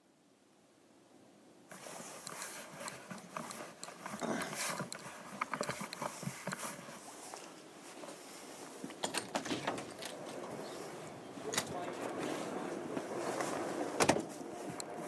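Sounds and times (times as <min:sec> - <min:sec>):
footsteps: 0:01.7 - 0:15.0.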